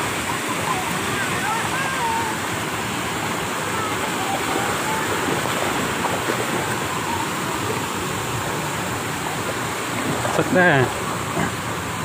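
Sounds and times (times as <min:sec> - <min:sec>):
water spraying into pool: 0:00.0 - 0:12.0.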